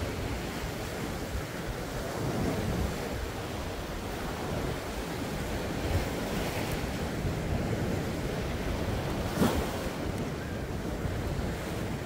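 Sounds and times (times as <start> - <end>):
sea waves breaking: 0.0 - 12.0
wind on microphone: 0.0 - 12.0.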